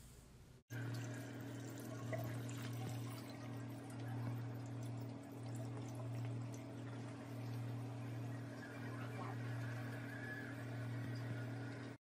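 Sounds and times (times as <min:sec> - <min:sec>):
low hum: 0:00.7 - 0:12.0
water pouring into a steel sink: 0:00.7 - 0:12.0.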